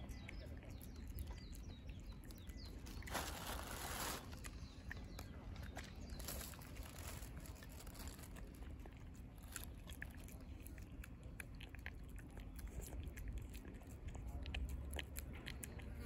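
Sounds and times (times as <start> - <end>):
cat chewing food: 0.0 - 16.0.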